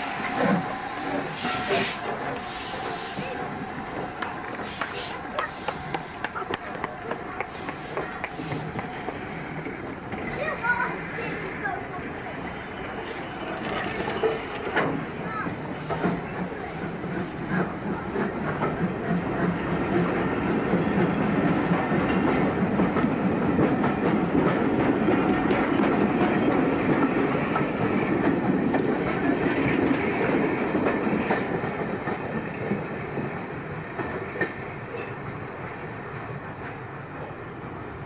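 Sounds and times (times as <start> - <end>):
train wheels on rails: 0.0 - 38.0.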